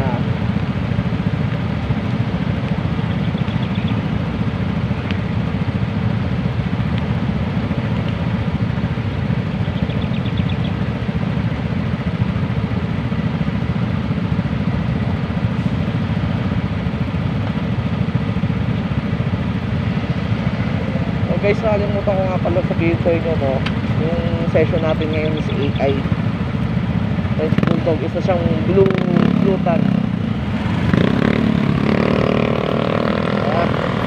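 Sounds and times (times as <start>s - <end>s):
motorcycle engine idling: 0.0s - 34.0s.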